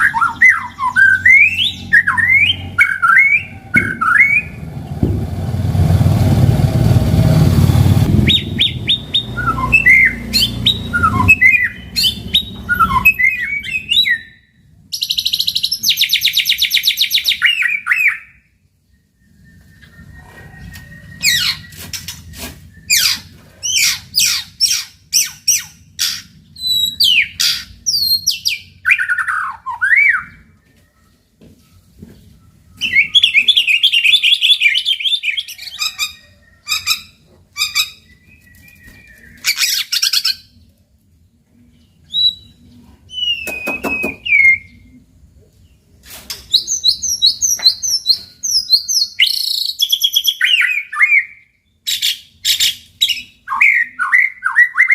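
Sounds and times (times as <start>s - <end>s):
bird singing whistled song: 0.0s - 4.6s, 8.1s - 31.2s, 32.4s - 40.6s, 42.0s - 45.0s, 46.5s - 54.9s.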